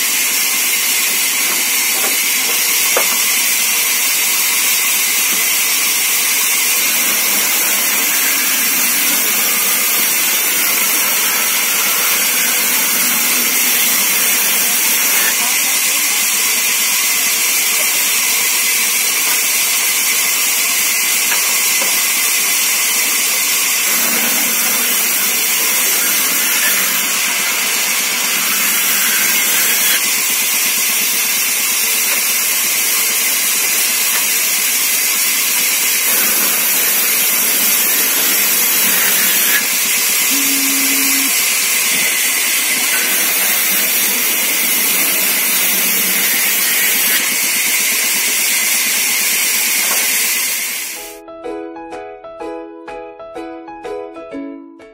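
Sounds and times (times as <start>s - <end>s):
band saw cutting wood: 0.0s - 51.0s.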